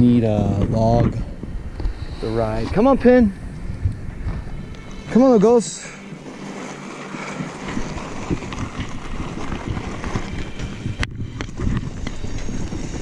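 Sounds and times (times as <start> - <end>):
rumble of riding dirt trail: 0.0 - 13.0
wind buffeting microphone: 0.0 - 13.0.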